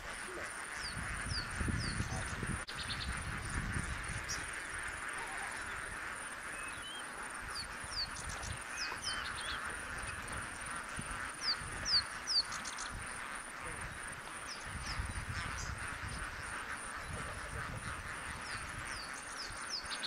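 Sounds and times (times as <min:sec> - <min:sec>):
murmur of flamingo flock: 0:00.0 - 0:20.0
small birds chirping: 0:00.0 - 0:20.0
wind rumble on microphone: 0:00.8 - 0:06.0, 0:07.4 - 0:20.0.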